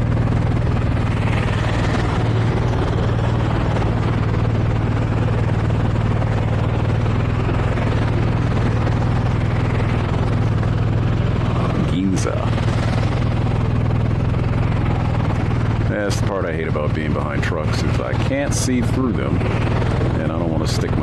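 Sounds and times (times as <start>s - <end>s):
motorcycle engine running: 0.0s - 21.0s
road and traffic noise: 0.0s - 21.0s.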